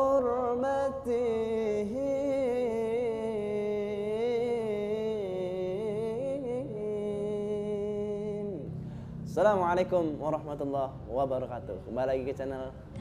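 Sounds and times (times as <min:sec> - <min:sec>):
man singing devotional chant: 0:00.0 - 0:13.0.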